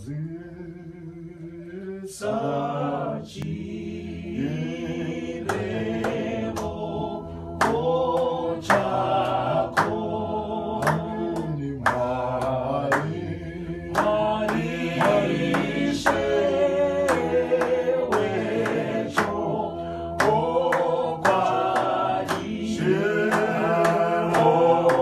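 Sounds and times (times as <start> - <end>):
group singing a hymn a cappella: 0.0 - 25.0
hand claps: 4.4 - 25.0.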